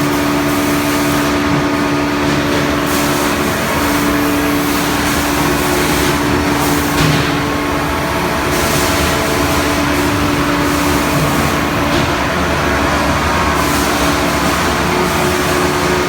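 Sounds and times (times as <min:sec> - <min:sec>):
sawmill machinery drone: 0:00.0 - 0:16.0.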